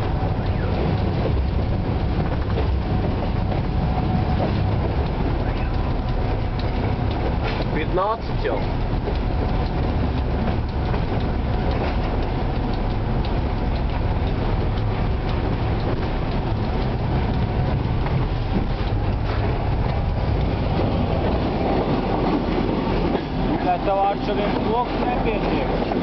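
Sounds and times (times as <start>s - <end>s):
diesel engine deep rumble: 0.0s - 26.0s
wheels clicking over track: 0.0s - 26.0s.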